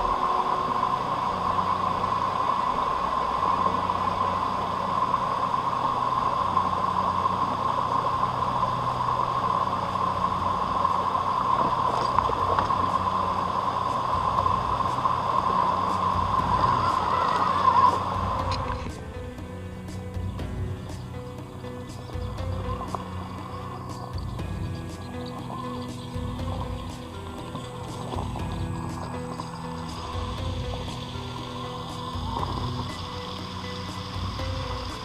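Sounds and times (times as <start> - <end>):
electric motor and gearbox whine: 0.0 - 35.0
hiss of noise: 0.0 - 35.0.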